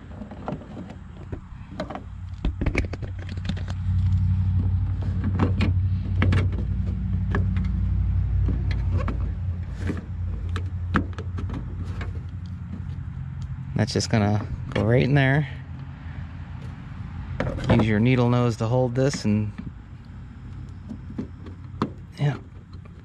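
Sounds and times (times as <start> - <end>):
steady low rumble: 1.0 - 23.0.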